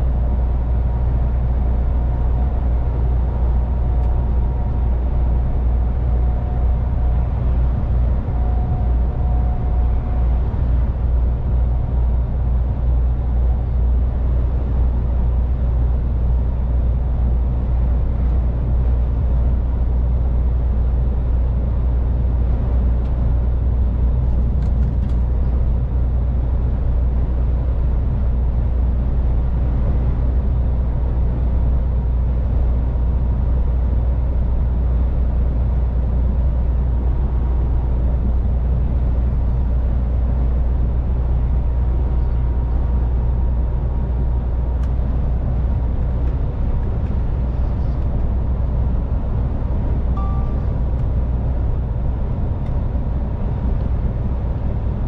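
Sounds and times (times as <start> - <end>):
truck diesel engine drone: 0.0 - 55.0.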